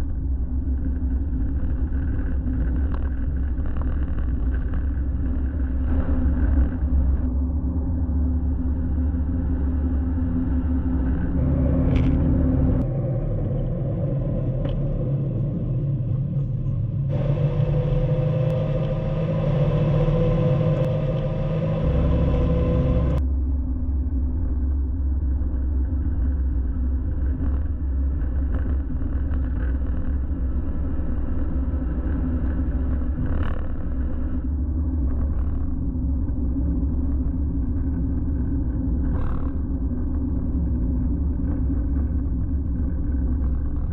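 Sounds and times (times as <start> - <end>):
small truck engine and road rumble: 0.0 - 43.9.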